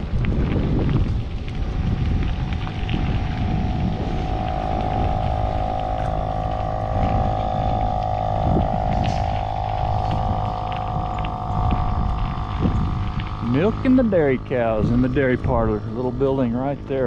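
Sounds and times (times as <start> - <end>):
bicycle tyres on gravel: 0.0 - 17.0
wind on microphone: 0.0 - 17.0
milking machine humming: 2.3 - 17.0.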